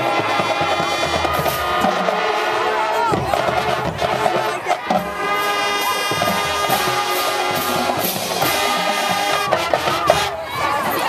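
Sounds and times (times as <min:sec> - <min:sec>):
marching band brass chords: 0:00.0 - 0:11.0.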